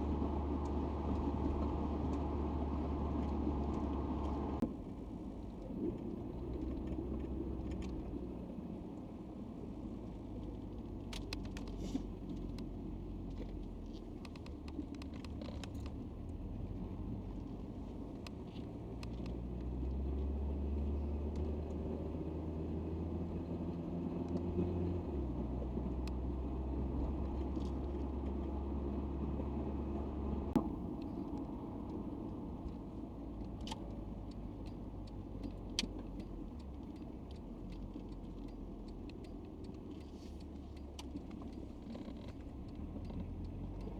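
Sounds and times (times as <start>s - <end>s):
car engine drone: 0.0s - 43.9s
road noise: 0.0s - 43.9s.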